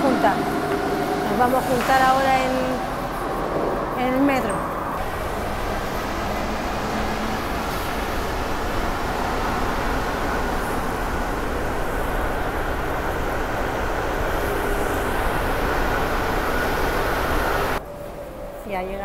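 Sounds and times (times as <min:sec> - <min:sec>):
metro train running: 0:00.0 - 0:19.0.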